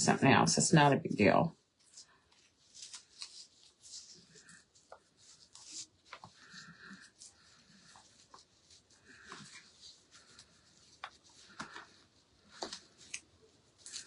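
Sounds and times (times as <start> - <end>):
rustling of paper and ribbon: 0.8 - 14.0.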